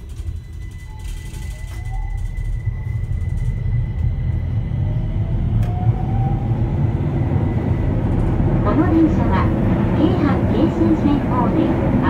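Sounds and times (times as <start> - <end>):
train inverter whine rising: 0.0 - 12.0
train wheels and motors rumbling: 0.0 - 12.0
steady high tone: 0.1 - 12.0.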